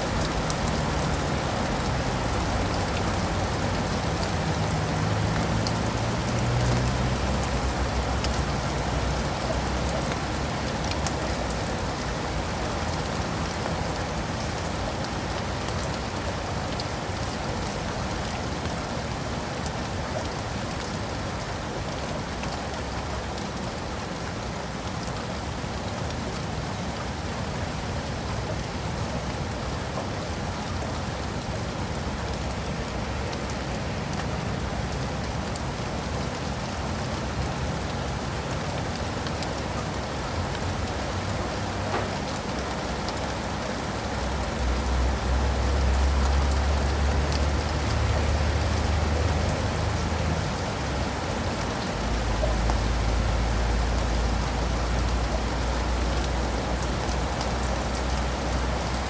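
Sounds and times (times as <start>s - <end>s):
rain on leaves and pavement: 0.0s - 59.0s.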